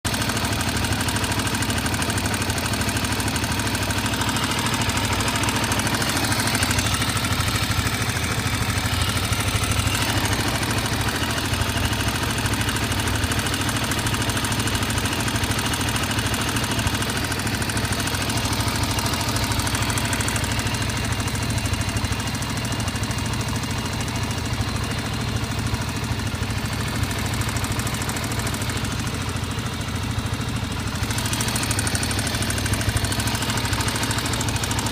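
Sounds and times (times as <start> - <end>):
engine knocking: 0.0 - 34.9
motorcycle engine idling: 0.0 - 34.9.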